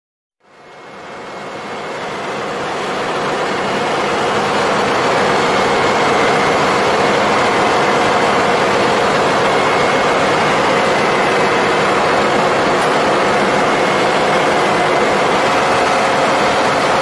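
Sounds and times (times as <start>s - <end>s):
engine room machinery din: 0.4s - 17.0s
steady machine tones: 0.5s - 17.0s.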